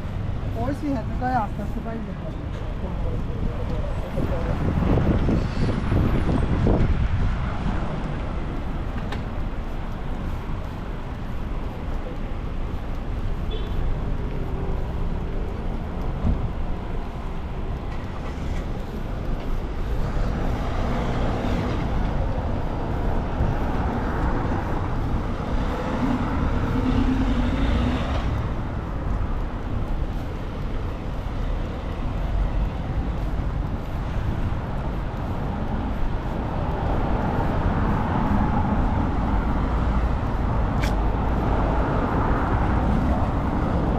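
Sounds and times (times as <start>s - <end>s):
cars and buses passing: 0.0s - 43.9s
steady low rumble: 0.0s - 43.9s.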